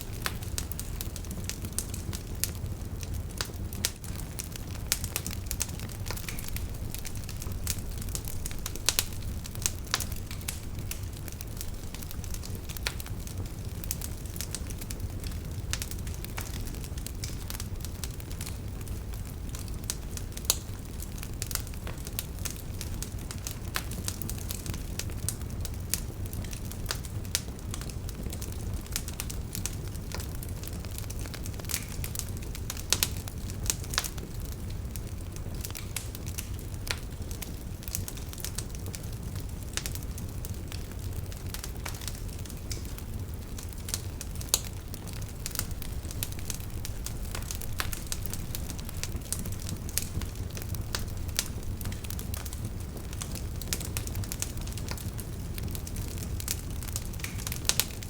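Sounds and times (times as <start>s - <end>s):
fire crackling and popping: 0.0s - 58.0s
flames rumbling: 0.0s - 58.0s.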